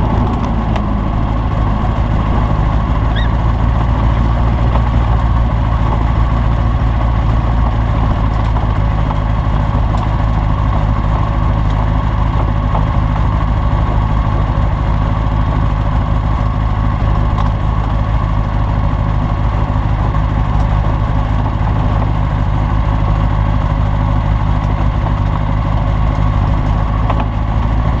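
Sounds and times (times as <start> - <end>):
light aircraft engine and propeller: 0.0 - 28.0.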